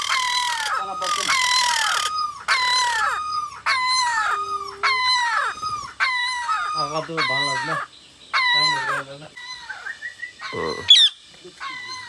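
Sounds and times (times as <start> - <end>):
birds with loud falling calls: 0.0 - 12.0.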